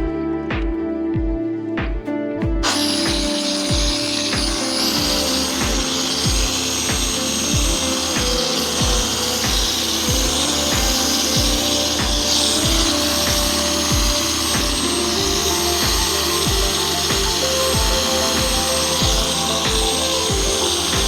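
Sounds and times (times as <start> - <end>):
background music with deep beat: 0.0 - 21.0
machine polisher whirring: 2.4 - 21.0.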